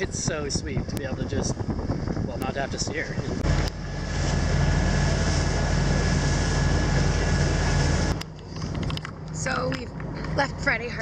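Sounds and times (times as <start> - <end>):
boat engine droning: 0.0 - 11.0
wind and water hiss: 0.0 - 11.0.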